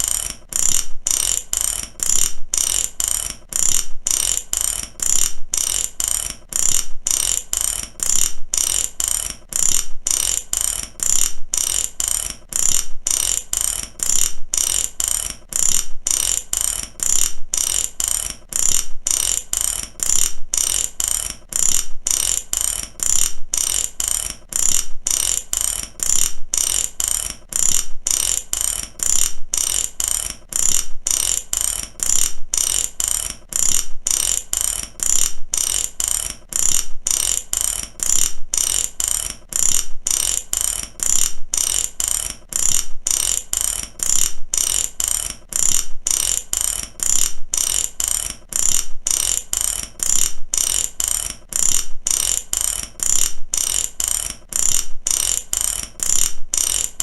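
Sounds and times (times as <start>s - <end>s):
ratchet wrench clicking: 0.0s - 57.0s.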